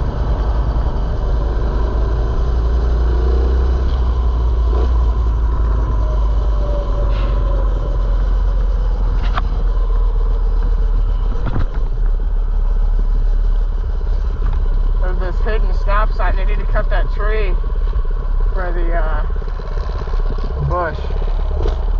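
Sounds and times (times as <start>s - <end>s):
heavy low rumble: 0.0s - 21.9s.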